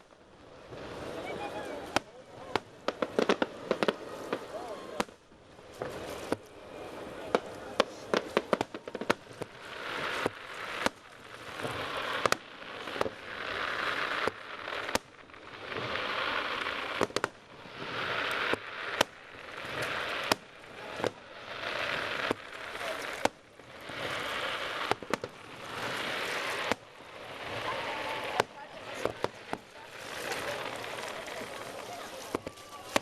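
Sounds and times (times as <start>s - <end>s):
crackling hiss of fireworks: 0.0s - 33.0s
fireworks sharp bangs: 0.0s - 33.0s.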